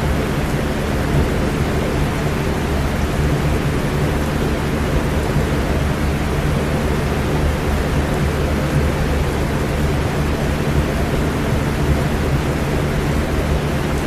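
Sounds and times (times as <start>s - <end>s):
electric fan humming: 0.0s - 14.0s
steady rain hiss: 0.0s - 14.0s.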